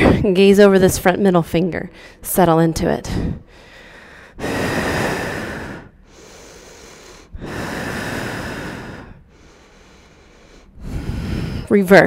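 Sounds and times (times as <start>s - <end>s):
woman breathing: 1.9s - 11.9s.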